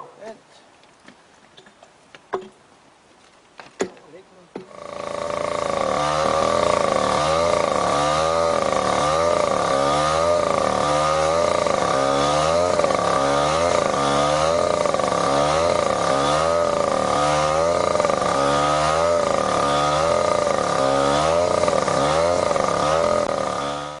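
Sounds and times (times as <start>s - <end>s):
rail grinder engine under load: 4.7s - 24.0s.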